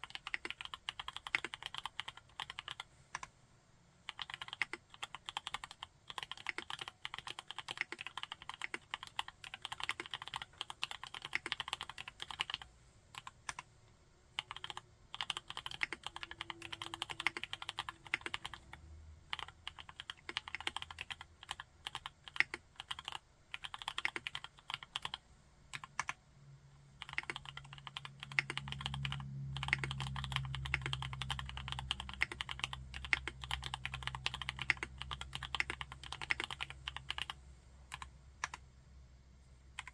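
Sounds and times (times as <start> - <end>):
mechanical keyboard typing: 0.0 - 3.3, 4.1 - 13.7, 14.4 - 26.2, 27.0 - 38.6.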